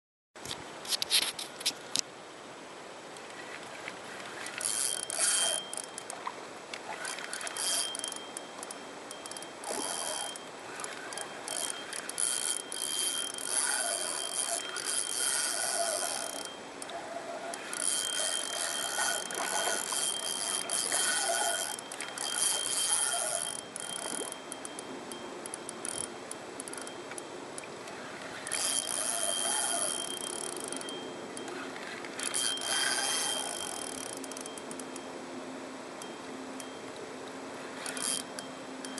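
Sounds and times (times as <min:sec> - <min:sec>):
fishing reel whirring and ticking: 0:04.3 - 0:35.1, 0:37.7 - 0:38.9.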